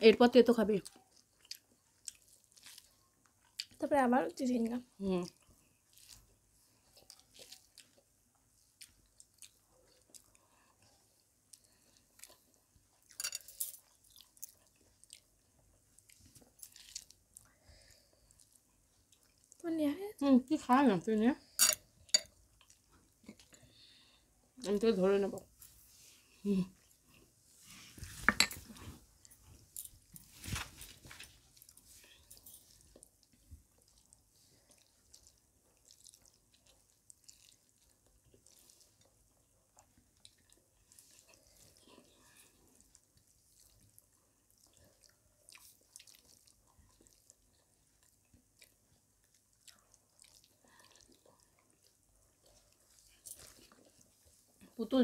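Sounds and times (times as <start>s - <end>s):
wet squishing of food mixed by hand: 0.3s - 13.2s, 14.0s - 55.0s
soft chewing: 0.4s - 55.0s.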